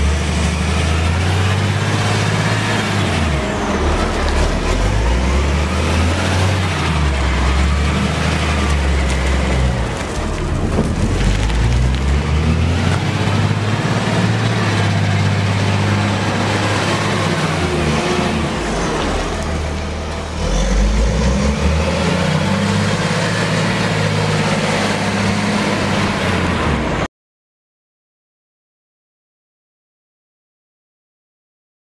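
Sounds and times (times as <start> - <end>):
wheel loader diesel engine running: 0.0 - 27.1.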